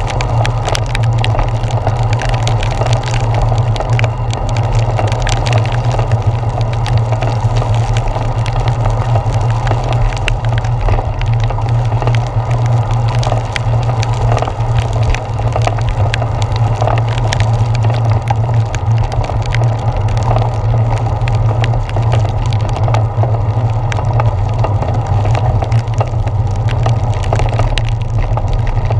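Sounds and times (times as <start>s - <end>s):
rain ticking on camera: 0.0s - 28.9s
wet road noise: 0.0s - 28.9s
wind rumble: 0.0s - 28.9s.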